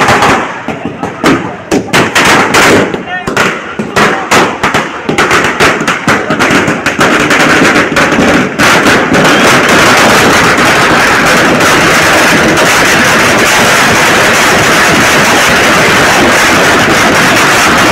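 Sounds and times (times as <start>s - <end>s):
firecrackers banging: 0.0s - 17.9s.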